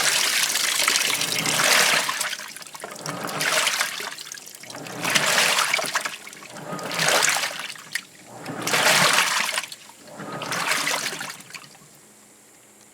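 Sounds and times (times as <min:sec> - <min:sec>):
washing machine sloshing: 0:00.0 - 0:12.0.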